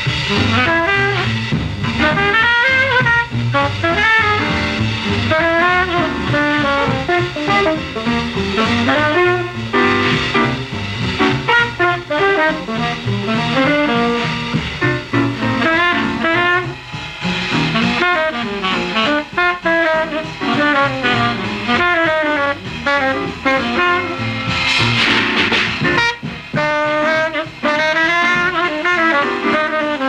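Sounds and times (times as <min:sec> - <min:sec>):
swing jazz with brass and saxophone: 0:00.0 - 0:30.0.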